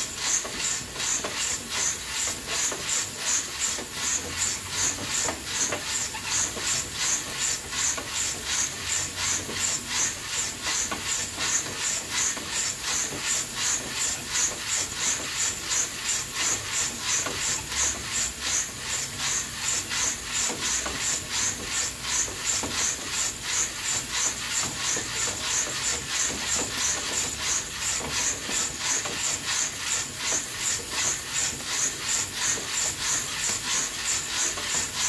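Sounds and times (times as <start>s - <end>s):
coffee beans roasting hiss: 0.0s - 35.0s.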